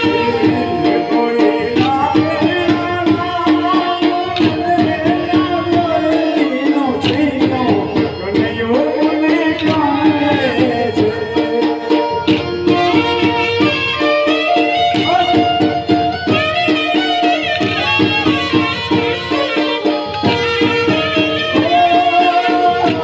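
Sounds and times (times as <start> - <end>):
hand drum beating: 0.0 - 23.0
held melody line: 0.0 - 23.0
person singing: 0.0 - 23.0.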